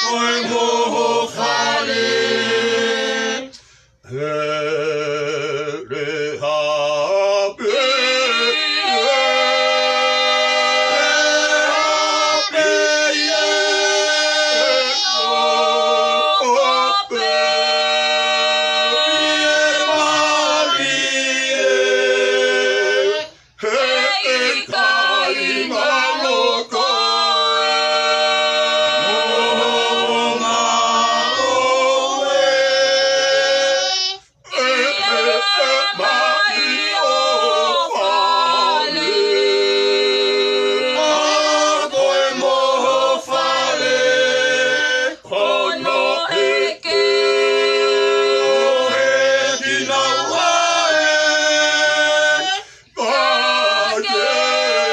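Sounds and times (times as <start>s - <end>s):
group singing unaccompanied: 0.0s - 54.9s.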